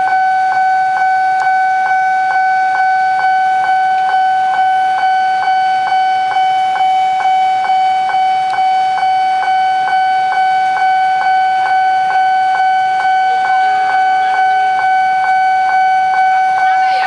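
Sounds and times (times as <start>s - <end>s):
railroad crossing bell ringing: 0.0s - 17.0s.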